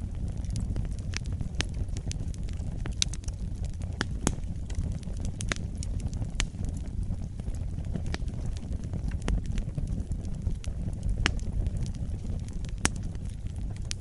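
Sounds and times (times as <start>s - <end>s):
fire crackling and popping: 0.0s - 14.0s
wood fire burning: 0.0s - 14.0s.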